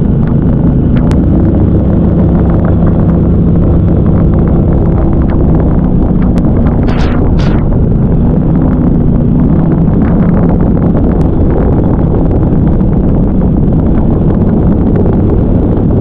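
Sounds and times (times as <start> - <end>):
boat motor running: 0.0 - 16.0
wind buffeting microphone: 0.0 - 16.0.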